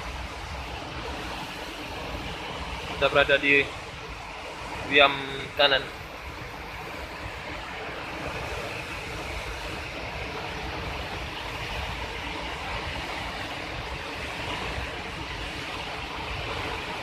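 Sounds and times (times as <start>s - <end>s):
waterfall roaring over rapids: 0.0s - 17.0s.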